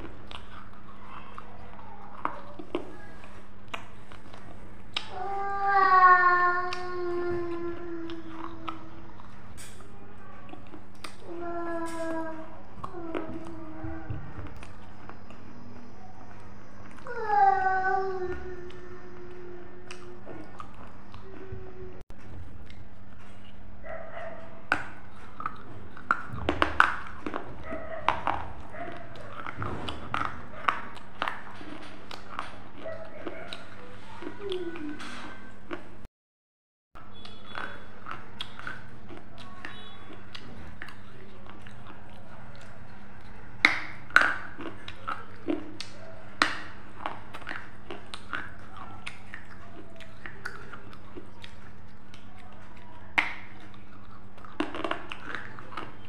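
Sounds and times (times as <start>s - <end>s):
crunchy snack being chewed: 0.0s - 5.2s, 6.3s - 17.2s, 24.4s - 36.0s, 37.0s - 56.0s.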